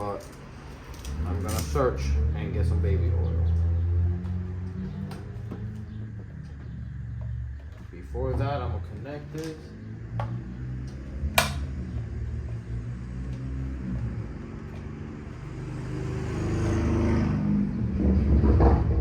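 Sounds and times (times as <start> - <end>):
low mechanical hum: 0.0 - 16.5.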